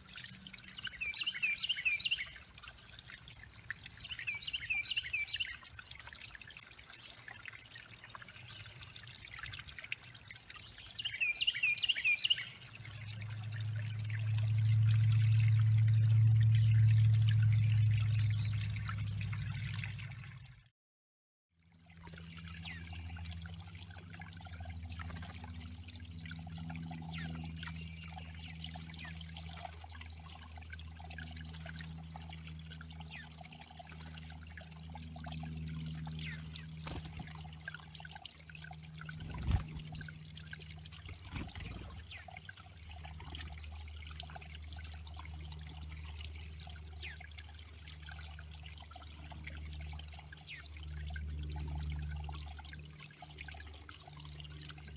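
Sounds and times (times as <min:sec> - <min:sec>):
water trickling into a pond: 0:00.0 - 0:20.7, 0:21.5 - 0:54.9.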